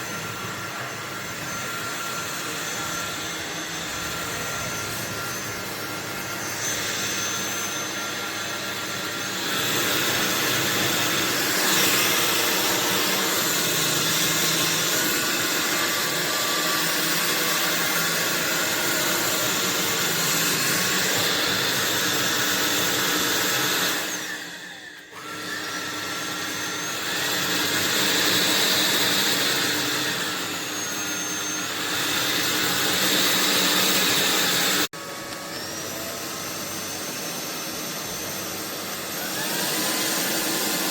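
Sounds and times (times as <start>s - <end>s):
stick vacuum running: 0.0s - 40.9s.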